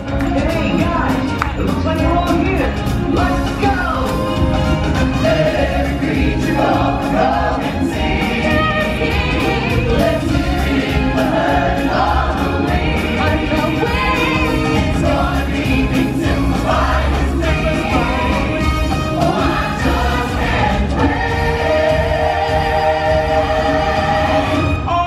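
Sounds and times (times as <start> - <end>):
choir singing with stage music: 0.0 - 25.0.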